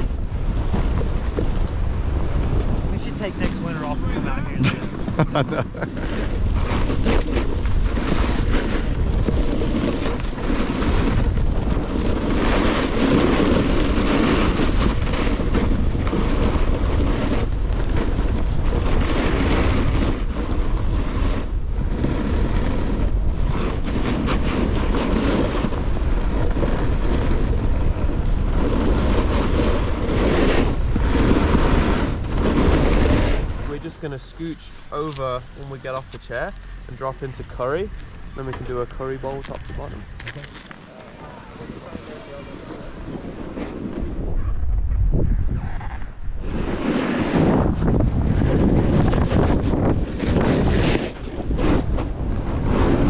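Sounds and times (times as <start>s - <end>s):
snowboard edges scraping snow: 0.0s - 44.4s, 45.8s - 53.0s
wind buffeting microphone: 0.0s - 53.0s.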